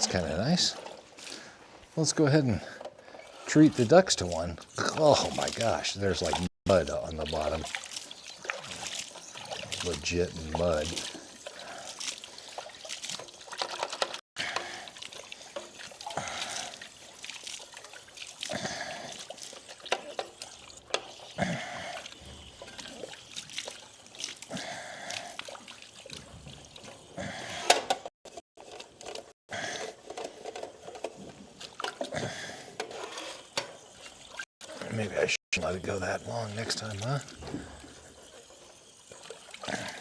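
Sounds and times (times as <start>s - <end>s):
water pouring and sloshing in bowl: 0.0s - 40.0s.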